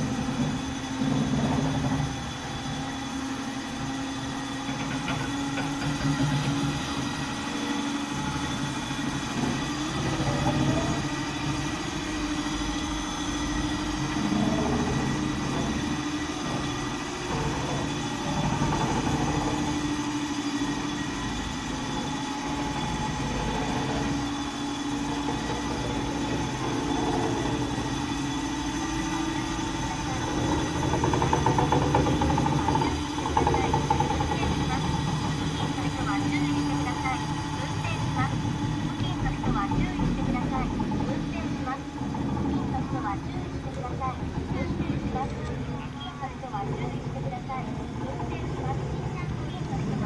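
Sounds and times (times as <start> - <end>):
railway turntable humming and rumbling: 0.0 - 50.0.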